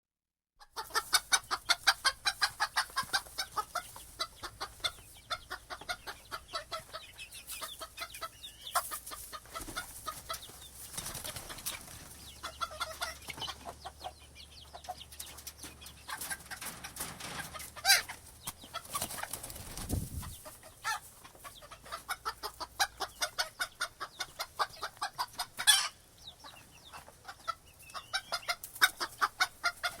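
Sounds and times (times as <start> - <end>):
chickens clucking: 0.6 - 30.0.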